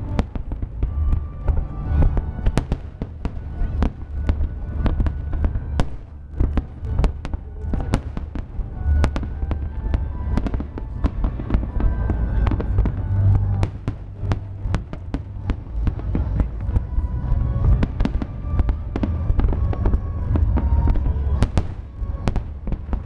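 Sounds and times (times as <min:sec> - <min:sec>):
continuous low rumble: 0:00.0 - 0:23.0
fireworks bangs and cracks: 0:00.0 - 0:23.0.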